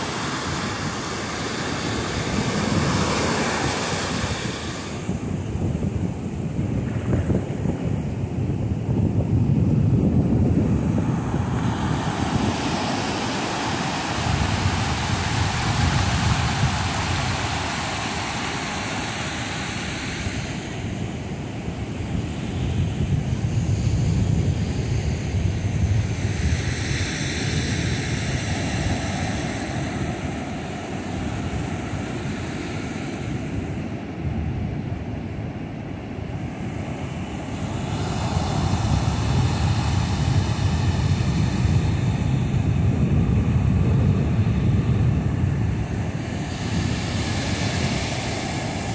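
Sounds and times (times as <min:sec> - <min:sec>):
ocean surf breaking: 0:00.0 - 0:25.4, 0:26.0 - 0:48.9
wind buffeting microphone: 0:00.0 - 0:48.9.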